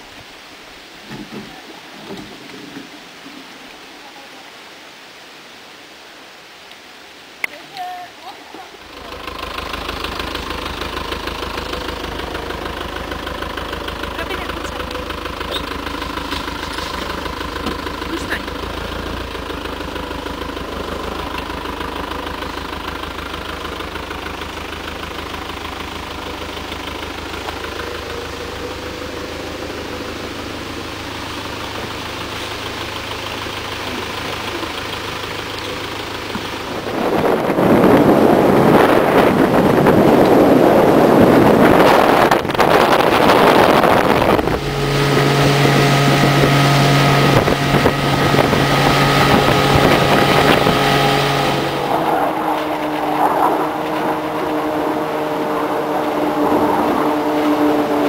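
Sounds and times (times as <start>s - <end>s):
engine idling: 7.4s - 58.0s
motorboat engine running: 7.5s - 58.0s.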